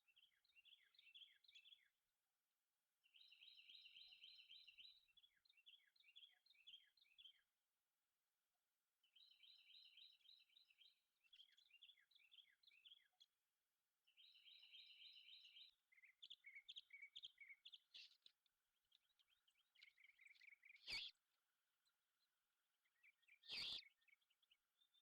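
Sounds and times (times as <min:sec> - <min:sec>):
faint songbird chirping: 0:00.0 - 0:02.1, 0:03.0 - 0:07.6, 0:09.0 - 0:25.0.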